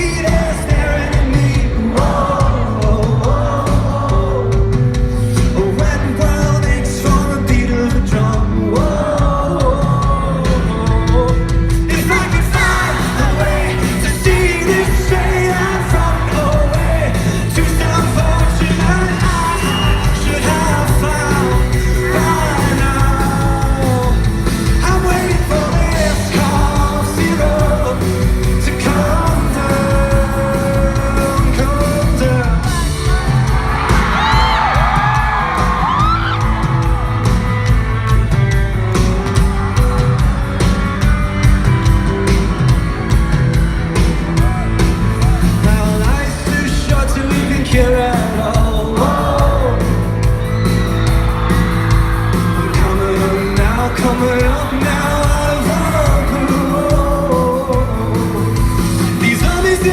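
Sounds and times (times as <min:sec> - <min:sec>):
audience yelling along: 0:00.0 - 0:05.7, 0:11.6 - 0:59.9
man singing lead vocal: 0:00.0 - 0:37.1, 0:45.2 - 0:59.9
live pop-rock band playing: 0:00.0 - 0:59.9.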